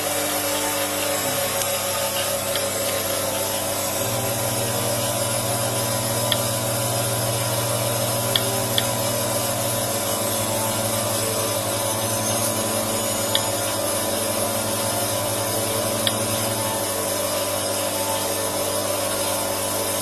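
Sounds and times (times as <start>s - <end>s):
low hum: 0.0s - 20.0s
vacuum pump drone: 0.0s - 20.0s.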